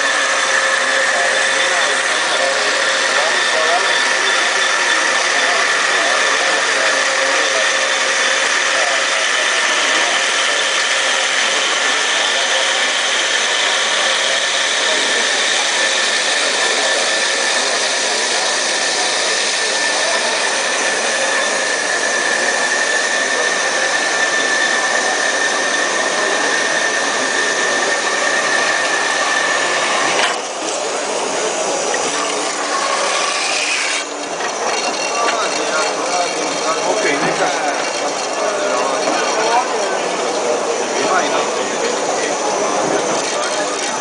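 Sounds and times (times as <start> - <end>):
band saw cutting metal tubes: 0.0 - 44.0.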